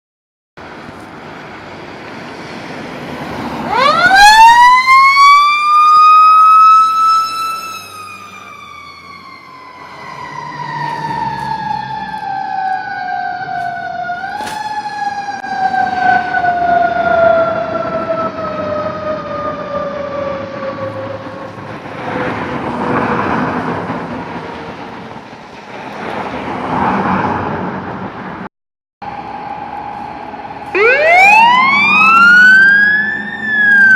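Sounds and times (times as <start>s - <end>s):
truck engine and road noise: 0.6s - 33.9s
fire truck siren wailing: 1.7s - 25.8s, 29.0s - 33.9s.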